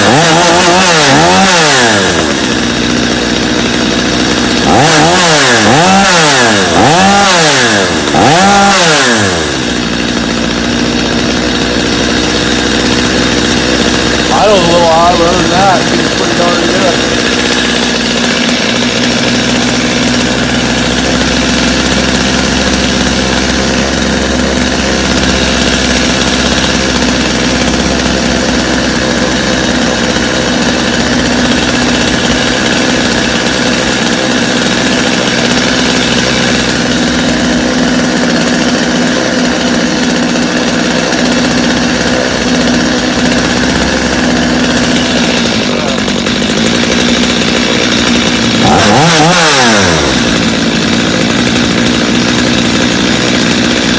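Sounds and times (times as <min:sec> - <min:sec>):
chainsaw idling: 0:00.0 - 0:53.9.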